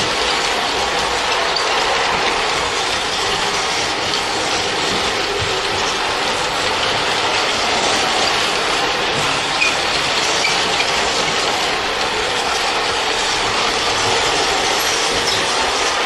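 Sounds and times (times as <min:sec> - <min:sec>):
model train whirring and rattling: 0:00.0 - 0:16.0.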